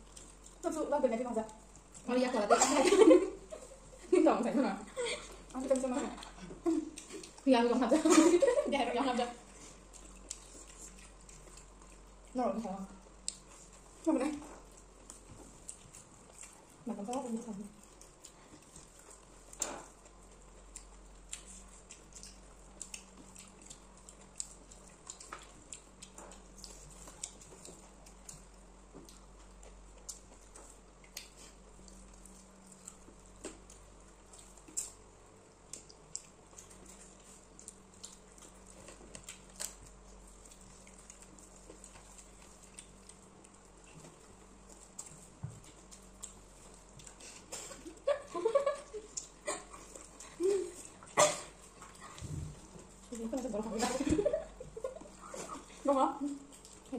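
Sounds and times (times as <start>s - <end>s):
chewing: 0.0s - 56.9s
faint low hum: 0.0s - 56.9s.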